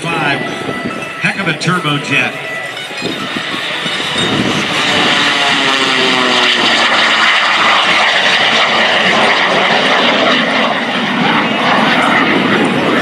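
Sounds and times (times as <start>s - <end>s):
biplane roaring past: 0.0s - 13.0s.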